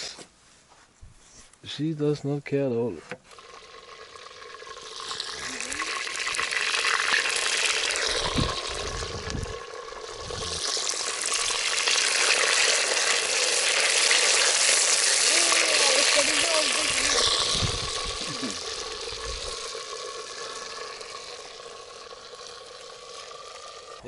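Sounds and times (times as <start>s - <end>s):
food sizzling in a pot: 3.3s - 24.0s.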